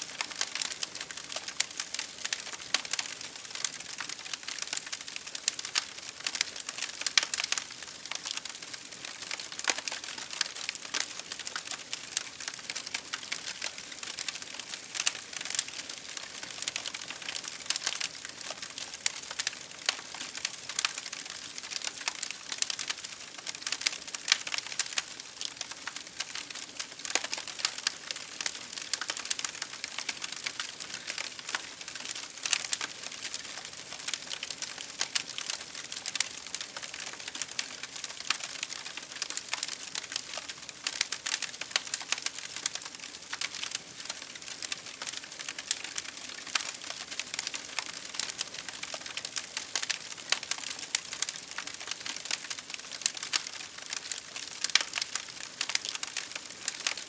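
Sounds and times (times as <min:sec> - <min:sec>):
fire crackling: 0:00.1 - 0:57.0.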